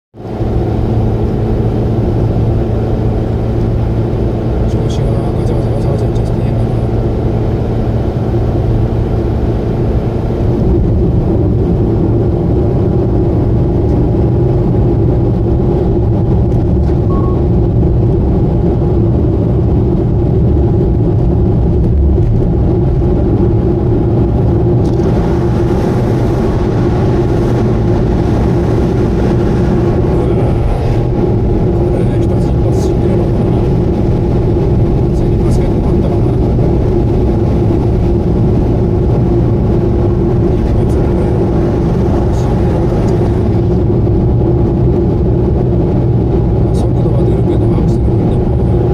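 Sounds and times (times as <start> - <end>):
car engine drone: 0.2 - 48.9
road noise: 0.2 - 48.9.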